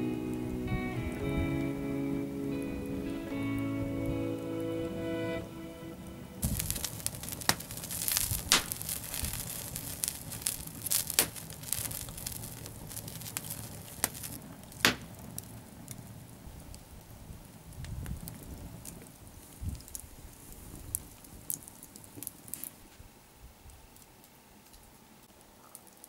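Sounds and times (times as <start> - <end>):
fire hissing: 0.0 - 22.8
fire popping: 0.0 - 23.0
wood fire crackling: 0.0 - 26.0.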